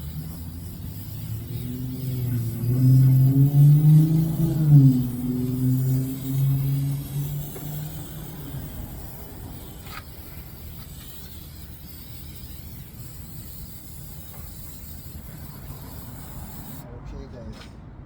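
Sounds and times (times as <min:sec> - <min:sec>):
aerosol can spraying hiss: 0:00.0 - 0:16.8.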